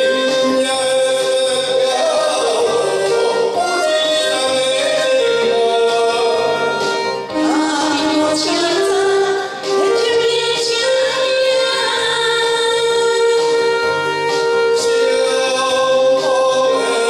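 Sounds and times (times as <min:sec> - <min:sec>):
karaoke backing track: 0:00.0 - 0:17.0
man and woman singing duet: 0:00.0 - 0:17.0.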